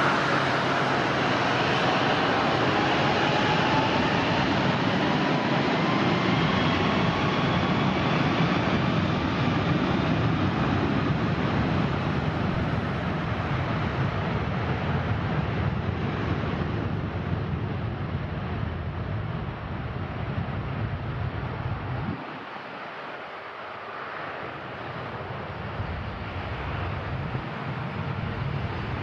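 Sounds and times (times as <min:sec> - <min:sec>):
jet engine rush: 0:00.0 - 0:29.0.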